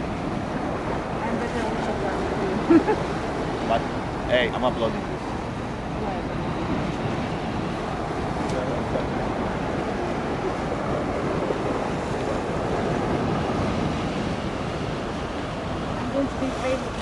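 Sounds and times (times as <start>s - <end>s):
sea surf: 0.0s - 17.0s
storm wind rushing: 0.0s - 17.0s
wind buffeting microphone: 0.0s - 17.0s.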